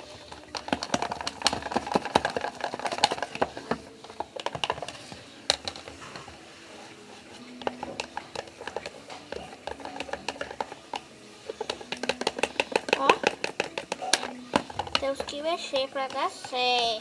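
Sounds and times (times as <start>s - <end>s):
utensil scraping a container: 0.0s - 17.0s.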